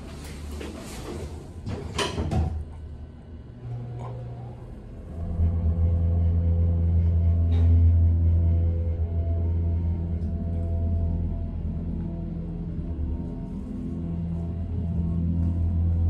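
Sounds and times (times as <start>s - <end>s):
elevator machinery humming: 0.0s - 16.0s.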